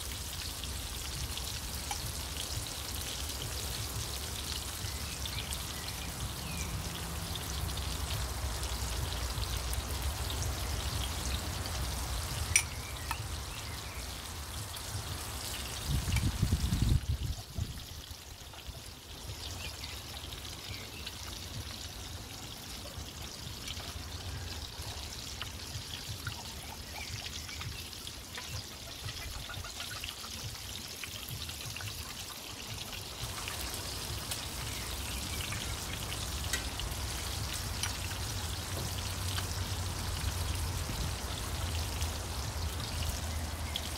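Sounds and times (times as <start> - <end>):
meat sizzling in a skillet: 0.0 - 43.9.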